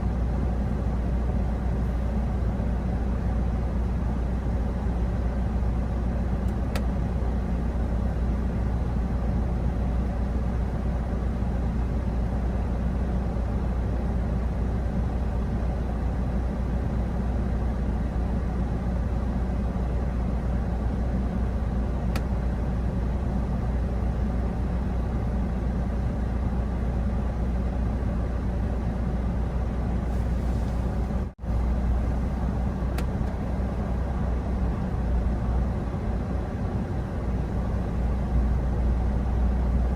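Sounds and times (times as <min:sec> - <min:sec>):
vehicle road and engine rumble: 0:00.0 - 0:39.9.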